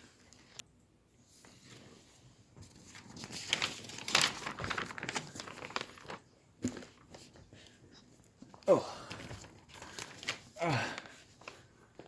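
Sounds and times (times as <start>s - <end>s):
book pages rustling: 1.2s - 12.0s.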